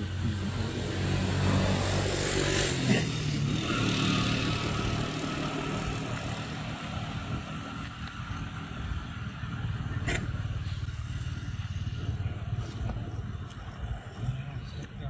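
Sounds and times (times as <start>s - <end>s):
vehicle engine running: 0.0s - 14.9s.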